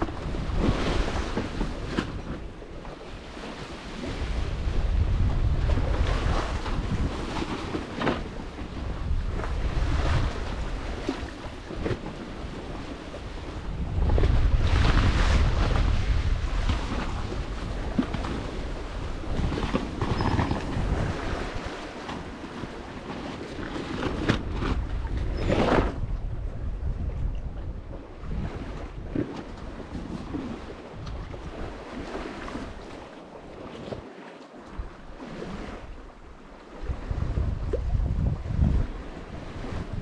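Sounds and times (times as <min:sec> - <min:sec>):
wind buffeting microphone: 0:00.0 - 0:34.0, 0:34.7 - 0:40.0
sea rushing: 0:00.0 - 0:40.0.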